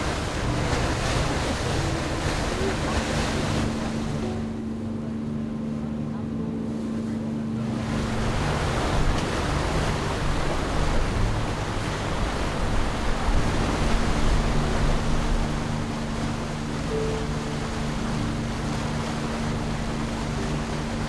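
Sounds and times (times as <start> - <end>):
rushing water: 0.0 - 6.1, 7.2 - 21.0
boat engine droning: 0.0 - 21.0
wind: 0.0 - 21.0.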